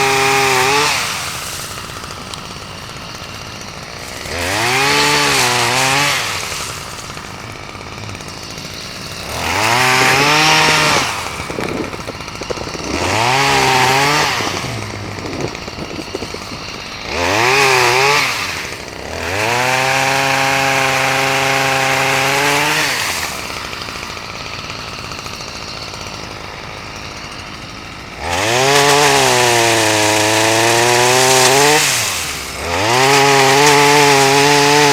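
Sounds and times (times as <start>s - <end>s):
chainsaw revving and idling: 0.0s - 34.9s.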